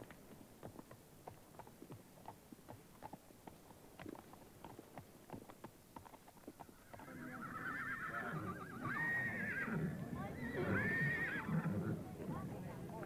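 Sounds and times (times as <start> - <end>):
horse hooves clip-clopping: 0.0 - 10.4, 11.1 - 13.0.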